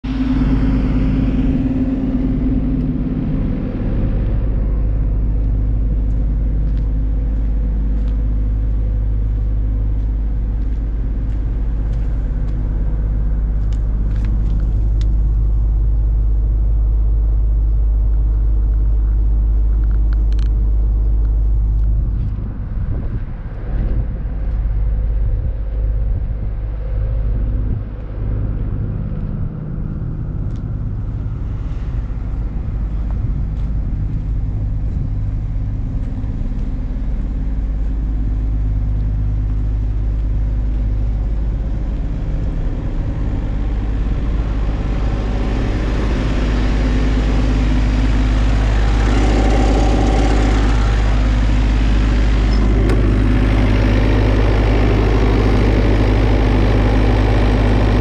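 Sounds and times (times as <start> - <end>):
diesel engine humming steadily: 0.0 - 58.0.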